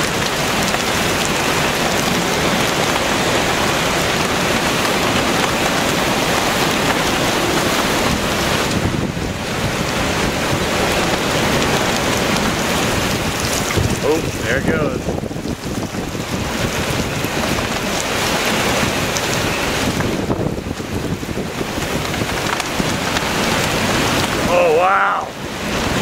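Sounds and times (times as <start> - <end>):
strong wind and heavy rain: 0.0 - 26.0.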